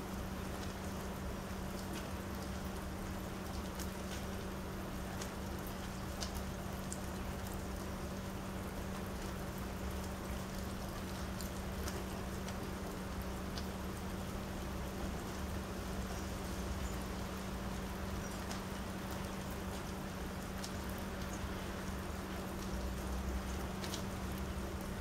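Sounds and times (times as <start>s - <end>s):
rain pattering on wooden deck: 0.0s - 25.0s.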